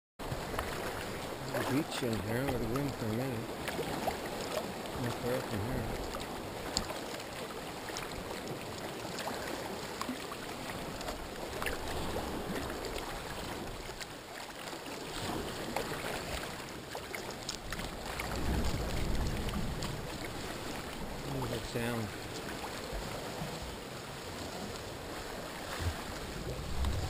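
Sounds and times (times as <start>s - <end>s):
low rush of water or wind: 0.2s - 27.0s
water lapping against kayak hull: 0.2s - 27.0s
small splashes and drips: 0.3s - 27.0s.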